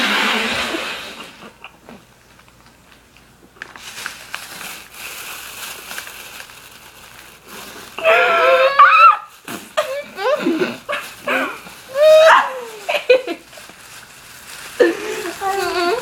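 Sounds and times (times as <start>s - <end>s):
plastic bag crinkling: 2.2s - 16.0s.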